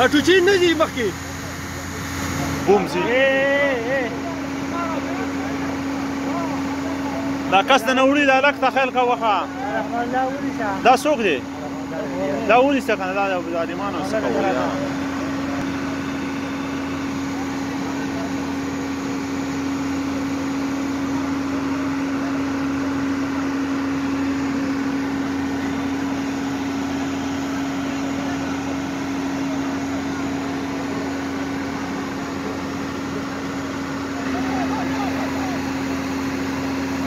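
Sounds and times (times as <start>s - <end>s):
truck engine droning: 0.0s - 37.0s.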